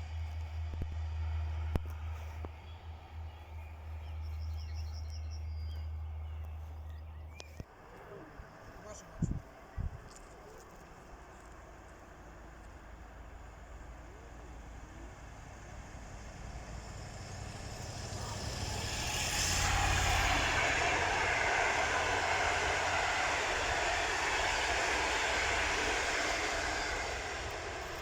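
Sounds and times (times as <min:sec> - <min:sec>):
train passing with wheel-on-rail noise: 0:00.0 - 0:28.0.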